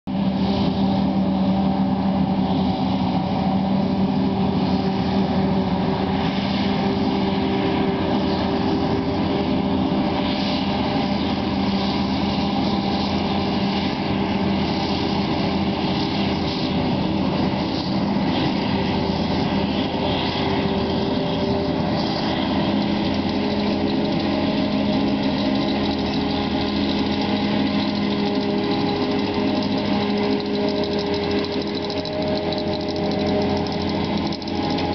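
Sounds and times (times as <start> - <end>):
forage harvester engine drone: 0.1 - 34.9
tractor engine: 0.1 - 34.9.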